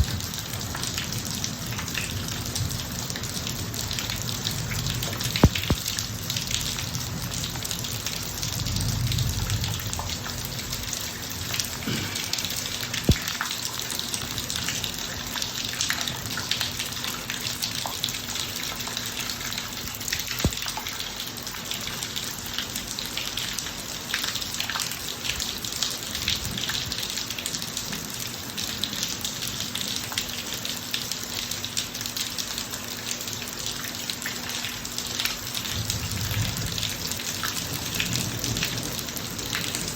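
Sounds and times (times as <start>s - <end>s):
heavy rain on a driveway: 0.0s - 39.9s.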